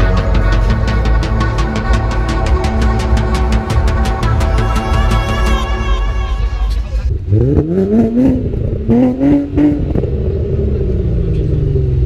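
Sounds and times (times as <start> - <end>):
car engine accelerating: 0.0 - 5.6, 6.7 - 12.0.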